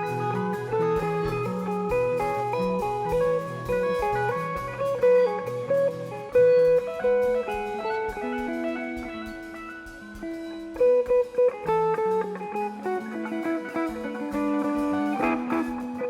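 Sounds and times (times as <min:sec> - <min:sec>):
electric guitar melody: 0:00.0 - 0:16.0
instrumental rock music: 0:00.0 - 0:16.0.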